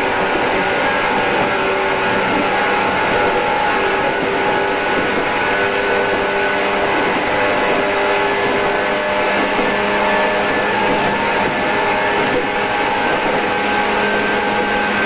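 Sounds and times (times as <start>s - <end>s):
electric train motor whine: 0.0s - 15.0s
wheels rumbling on rail: 0.0s - 15.0s.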